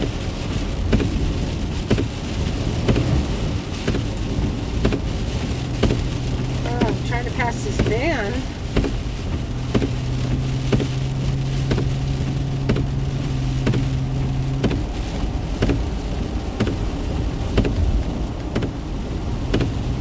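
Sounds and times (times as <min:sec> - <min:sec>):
heavy rain drumming on car: 0:00.0 - 0:20.0
windshield wiper knocks: 0:00.0 - 0:20.0.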